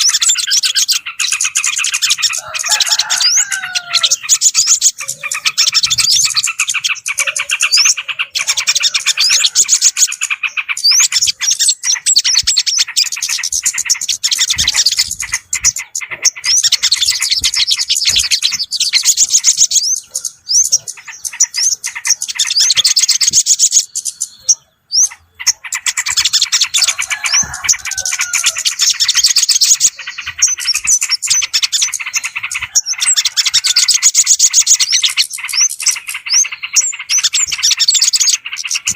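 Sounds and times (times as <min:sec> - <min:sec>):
songbirds chirping rapidly: 0:00.0 - 0:38.9.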